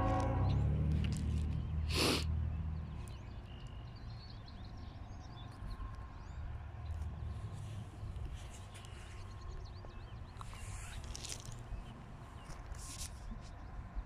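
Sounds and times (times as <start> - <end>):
diesel locomotive rumble: 0.0 - 13.0
small birds chirping: 1.3 - 14.0.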